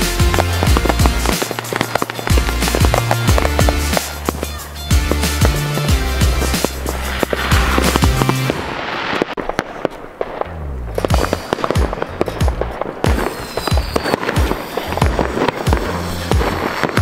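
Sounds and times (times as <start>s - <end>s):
music with deep bass: 0.0s - 8.6s, 10.4s - 17.0s
fireworks bangs and crackles: 0.0s - 17.0s.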